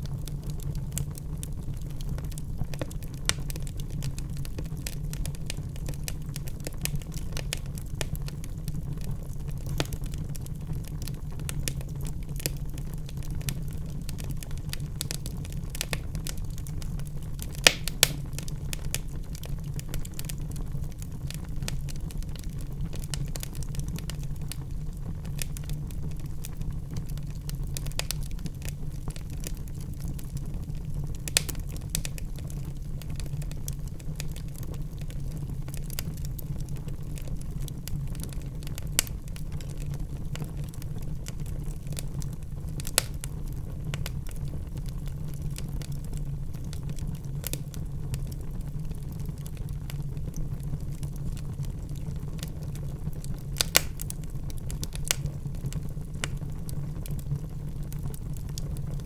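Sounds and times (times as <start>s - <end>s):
fire pops: 0.0s - 36.8s, 37.9s - 44.4s, 48.8s - 59.0s
wood fire crackling: 0.0s - 59.0s.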